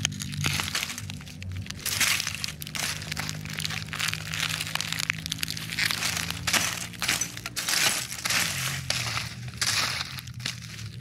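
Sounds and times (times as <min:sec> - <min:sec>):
broken plastic crunching: 0:00.0 - 0:11.0
stick raking through debris: 0:00.0 - 0:11.0.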